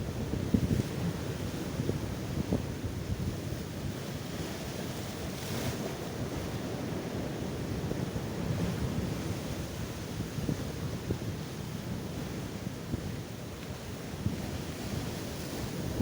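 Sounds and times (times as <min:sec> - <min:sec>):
sea waves breaking on shore: 0:00.0 - 0:16.0
wind rumbling on microphone: 0:00.0 - 0:16.0.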